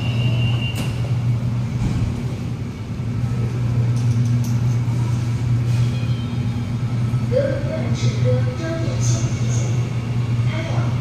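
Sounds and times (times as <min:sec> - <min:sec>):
train equipment low hum: 0:00.0 - 0:11.0.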